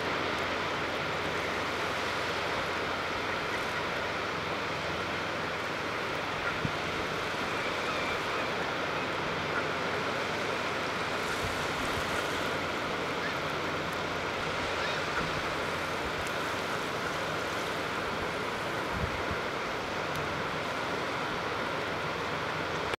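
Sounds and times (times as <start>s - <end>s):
water washing on shoreline: 0.0s - 23.0s.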